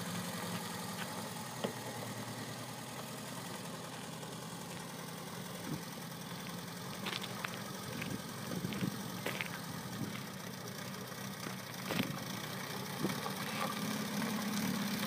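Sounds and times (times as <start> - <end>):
car engine running at low revs: 0.0 - 15.0
tyres crunching on gravel: 0.4 - 1.8, 2.8 - 14.7.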